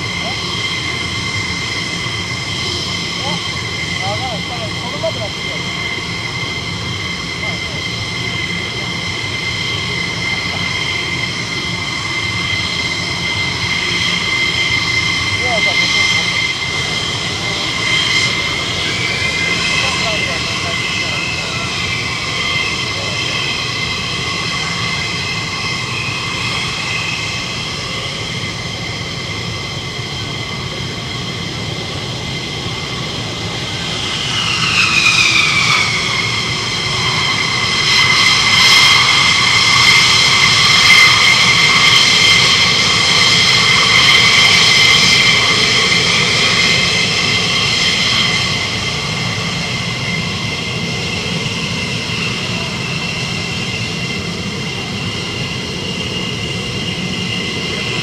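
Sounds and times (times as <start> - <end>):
jet engine turbine whine: 0.0 - 58.0
jet whine sweeping down: 0.0 - 58.0.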